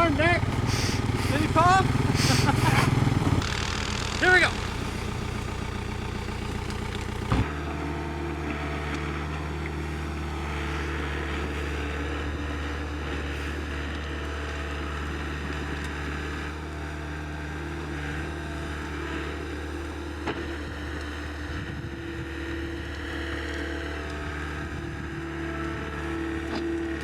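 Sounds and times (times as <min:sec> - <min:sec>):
excavator diesel engine idling: 0:00.0 - 0:27.0.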